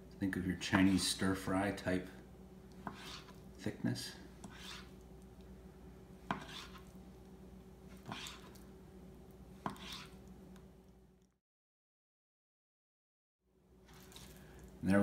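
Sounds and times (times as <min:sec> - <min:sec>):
faint steady hum: 0:00.0 - 0:11.4, 0:13.5 - 0:15.0.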